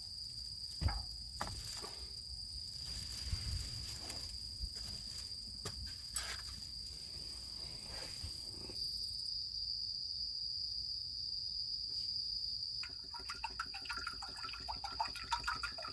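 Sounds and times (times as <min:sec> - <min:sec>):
insects trilling: 0:00.0 - 0:15.9.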